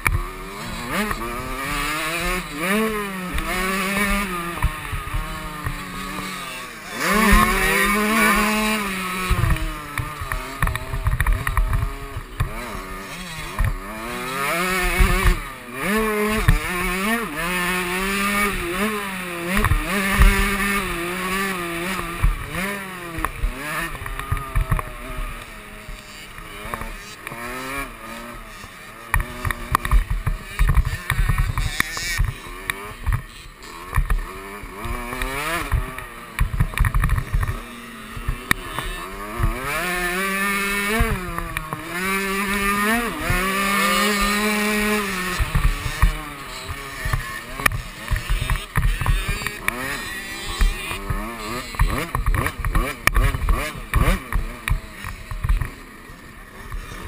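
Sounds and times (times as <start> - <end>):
two-stroke motocross engine revving: 0.0 - 57.0
low thumps from rough track: 7.1 - 28.5, 29.1 - 55.8.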